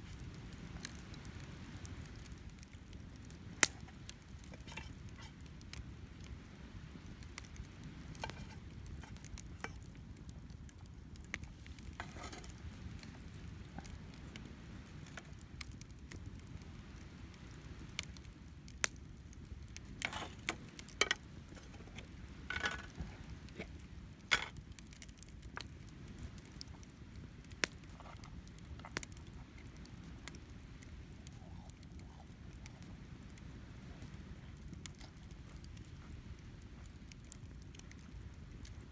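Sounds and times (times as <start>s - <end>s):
campfire crackling: 0.0s - 38.9s
wind: 0.0s - 38.9s.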